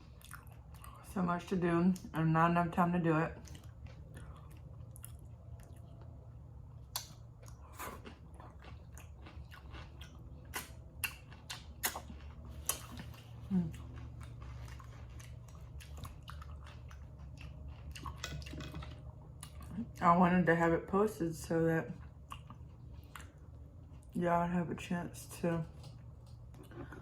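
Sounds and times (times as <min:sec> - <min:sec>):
chewing food: 0:00.0 - 0:01.1, 0:03.2 - 0:20.1, 0:21.9 - 0:24.2, 0:25.6 - 0:27.0
low hum: 0:00.0 - 0:27.0.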